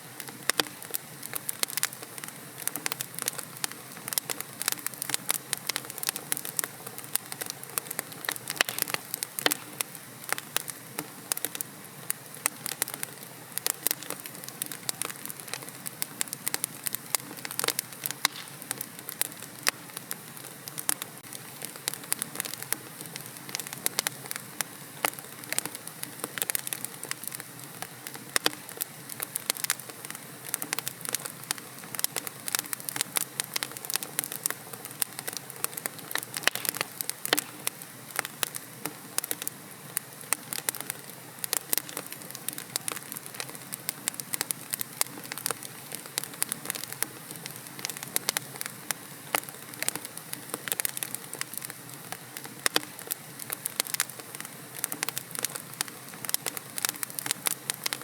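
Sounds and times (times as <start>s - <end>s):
soft hiss of fire: 0.0s - 58.0s
wood fire crackling and popping: 0.0s - 58.0s.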